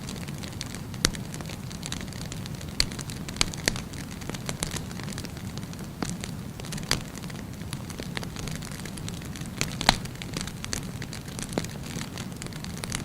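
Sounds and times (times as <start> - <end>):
fire crackles and pops: 0.0 - 13.0.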